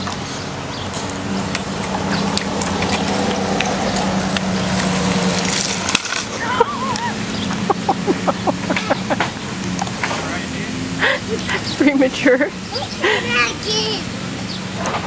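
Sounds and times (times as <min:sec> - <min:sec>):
scooter wheels rolling on concrete: 0:00.0 - 0:14.0.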